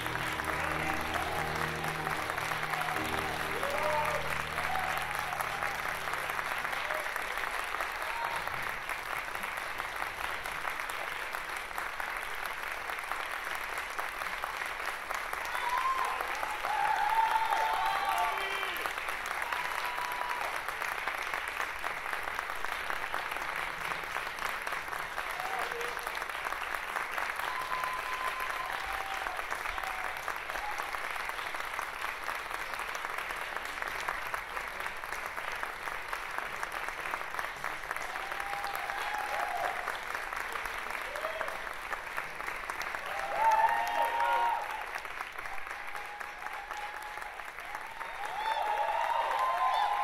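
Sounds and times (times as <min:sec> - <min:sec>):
audience applauding: 0:00.0 - 0:50.0.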